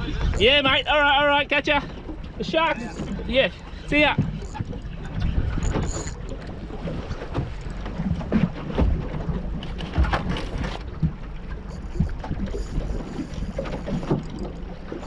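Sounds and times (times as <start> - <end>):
wind buffeting microphone: 0.0 - 14.8
water slapping against boat hull: 0.0 - 15.0.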